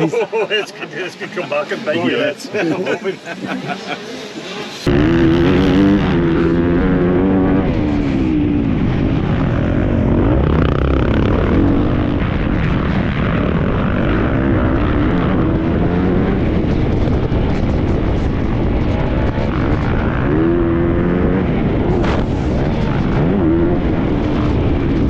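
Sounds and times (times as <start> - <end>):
motorbike engine revving: 3.5 - 25.0.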